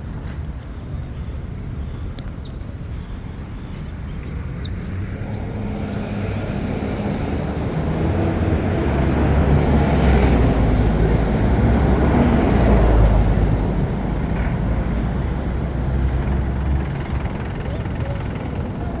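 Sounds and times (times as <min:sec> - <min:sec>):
city traffic: 0:00.0 - 0:19.0
heavy vehicle rumbling past: 0:03.6 - 0:19.0.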